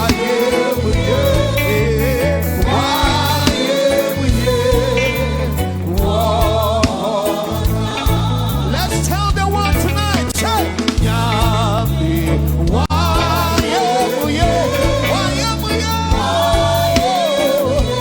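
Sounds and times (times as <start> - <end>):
lead singer's wavering vocal: 0.0 - 18.0
steady bass groove: 0.0 - 18.0.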